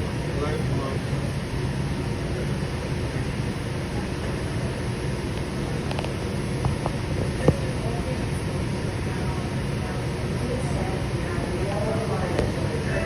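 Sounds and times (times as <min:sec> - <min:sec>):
light rail car rumble and hiss: 0:00.0 - 0:13.0.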